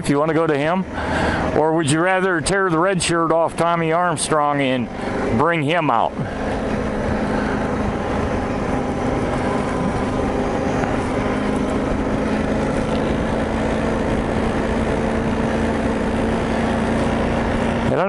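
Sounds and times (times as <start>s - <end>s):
motorcycle engine cruising: 0.0s - 18.0s
wind and road noise: 0.0s - 18.0s.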